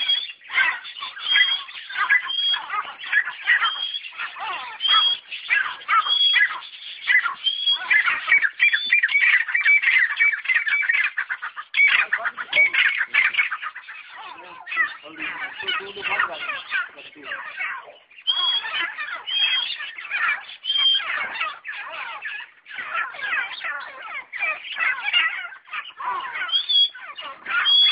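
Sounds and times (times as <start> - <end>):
birds chattering calls: 0.0 - 27.9.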